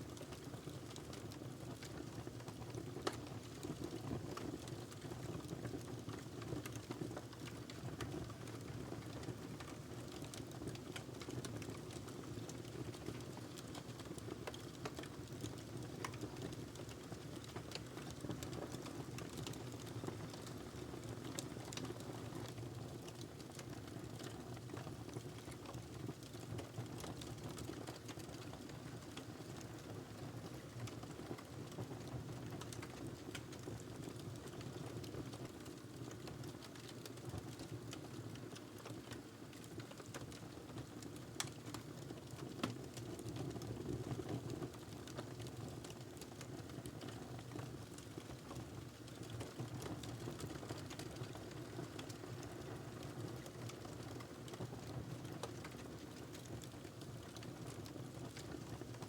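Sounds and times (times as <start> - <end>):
wood fire crackling: 9.2 - 29.9, 30.6 - 43.3, 44.2 - 59.0.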